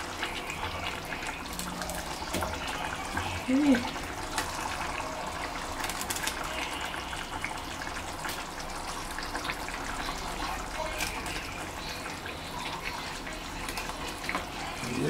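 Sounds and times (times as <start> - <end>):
gravy bubbling in a frying pan: 0.0 - 15.0.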